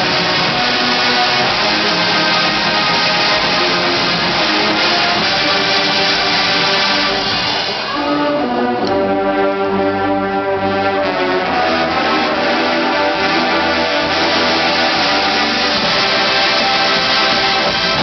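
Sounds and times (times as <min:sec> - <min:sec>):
brass section playing chords: 0:00.0 - 0:18.0.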